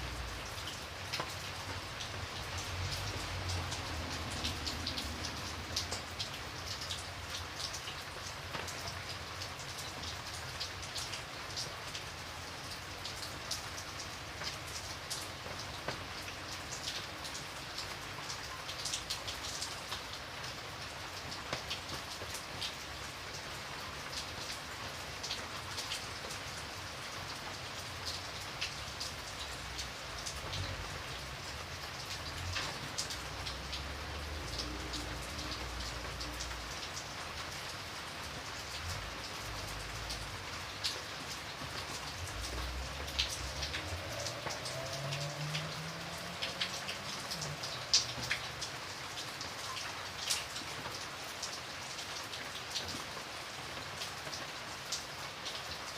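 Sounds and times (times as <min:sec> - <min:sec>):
rain falling on a hard surface: 0:00.0 - 0:55.9.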